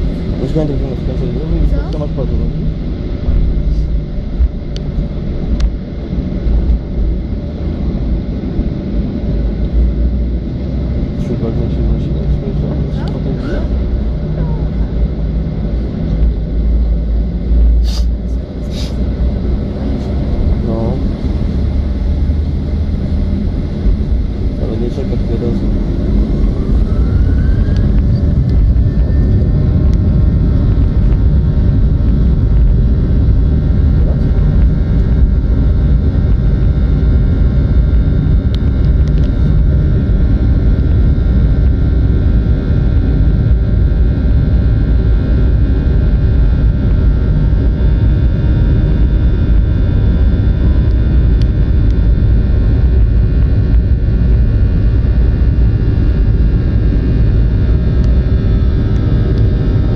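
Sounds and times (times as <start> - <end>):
jet engine rumble in cabin: 0.0 - 59.9
jet engine whine: 0.0 - 59.9.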